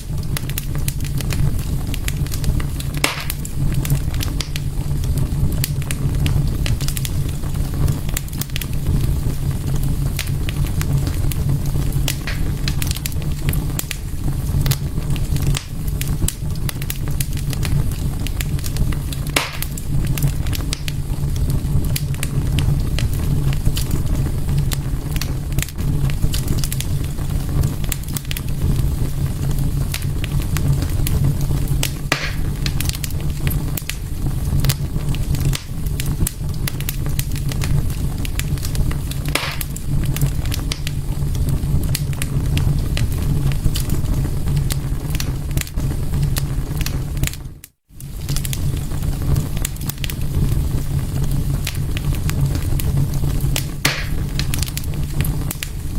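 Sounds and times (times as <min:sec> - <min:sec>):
fire crackling: 0:00.0 - 0:55.9
fire popping: 0:00.0 - 0:55.9.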